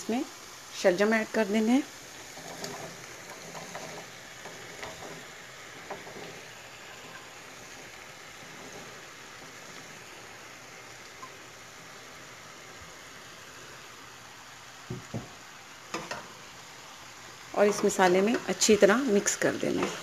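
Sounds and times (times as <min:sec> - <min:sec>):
spices sizzling in a pot: 0:00.0 - 0:20.0.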